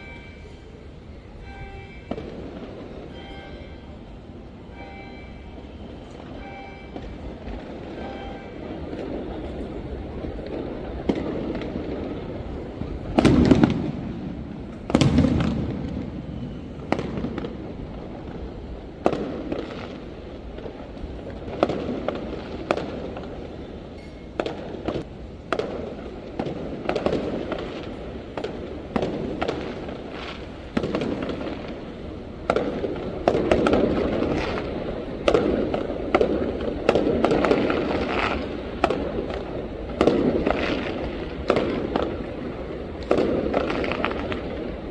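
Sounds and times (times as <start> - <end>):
fireworks bangs echoing: 0.0 - 44.9
fireworks cracks and pops: 6.0 - 44.9.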